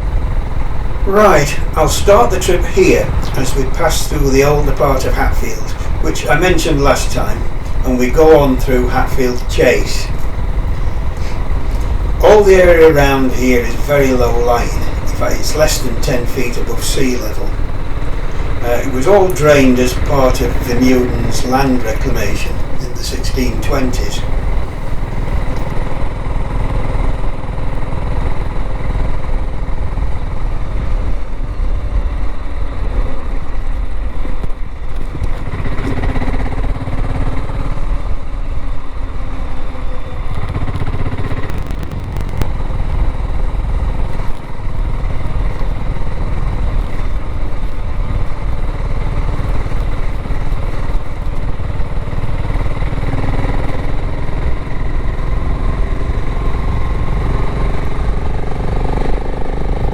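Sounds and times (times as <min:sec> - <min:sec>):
motorcycle engine revving: 0:00.0 - 0:30.8, 0:35.0 - 0:38.4, 0:39.0 - 0:59.9.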